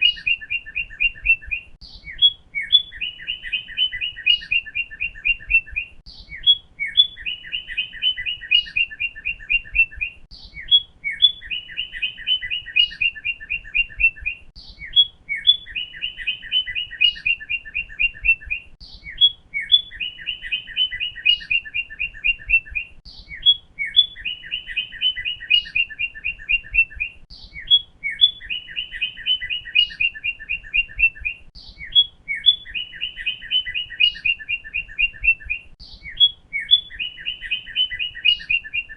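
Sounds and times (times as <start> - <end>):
cardinal song whistled notes: 0.0 - 38.9.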